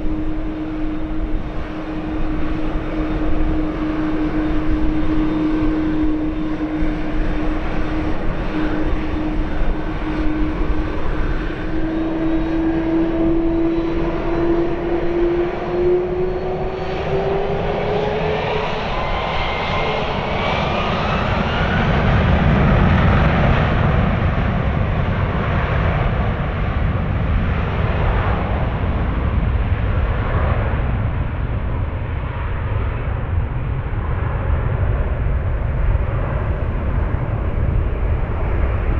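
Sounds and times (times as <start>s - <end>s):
heavy jet engine rumble: 0.0s - 38.9s.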